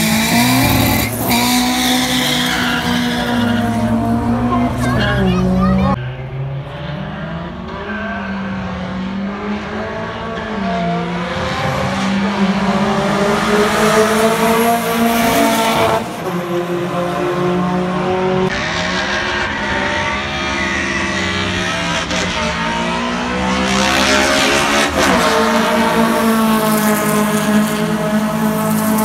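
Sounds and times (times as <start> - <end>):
car engines accelerating hard: 0.0 - 29.0.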